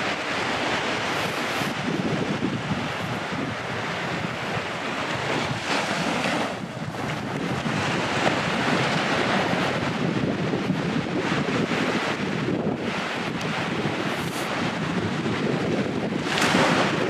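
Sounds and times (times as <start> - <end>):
surf washing up beach: 0.0 - 17.0
wind buffeting microphone: 0.0 - 17.0.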